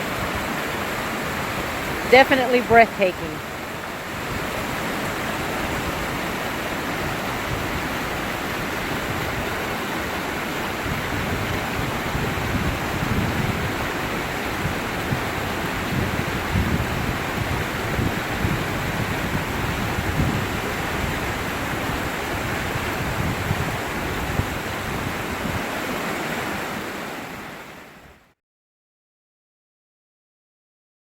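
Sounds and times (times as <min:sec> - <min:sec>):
waterfall crashing into pool: 0:00.0 - 0:28.0.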